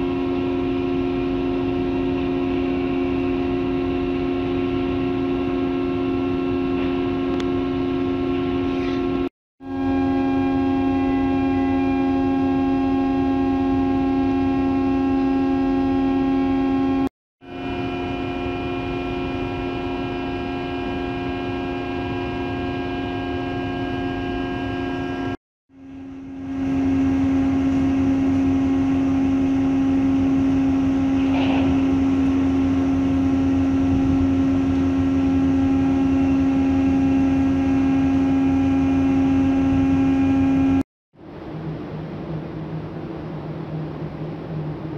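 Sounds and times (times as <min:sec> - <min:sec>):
ship machinery humming: 0:00.0 - 0:44.9.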